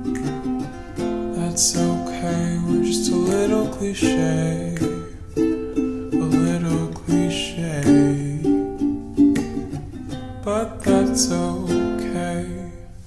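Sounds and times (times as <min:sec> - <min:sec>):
ukulele playing: 0:00.0 - 0:13.0.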